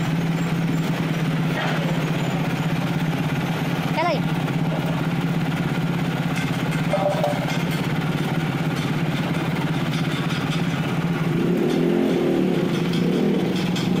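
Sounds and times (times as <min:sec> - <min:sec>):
small engine pulsing: 0:00.0 - 0:14.0.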